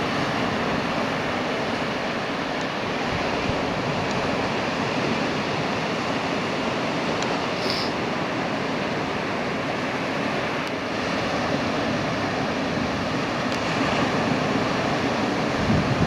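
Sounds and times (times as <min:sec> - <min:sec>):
waves breaking on beach: 0:00.0 - 0:16.0.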